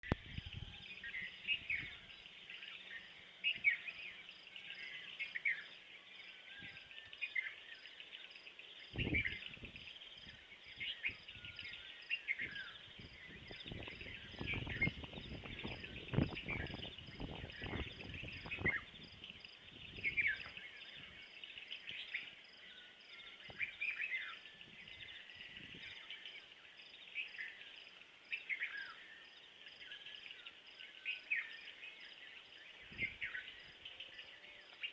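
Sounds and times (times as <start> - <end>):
birds singing: 0.0 - 34.9.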